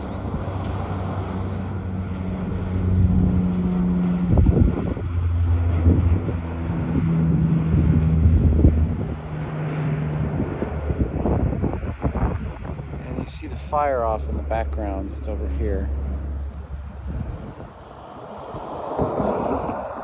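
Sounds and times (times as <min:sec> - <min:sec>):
turboprop plane flying overhead: 0:00.0 - 0:20.0
wind buffeting microphone: 0:00.0 - 0:20.0.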